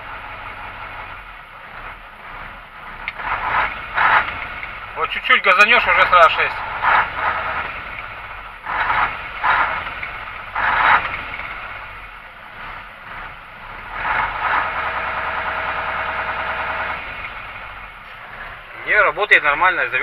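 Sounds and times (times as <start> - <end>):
diesel truck engine revving: 0.0 - 20.0.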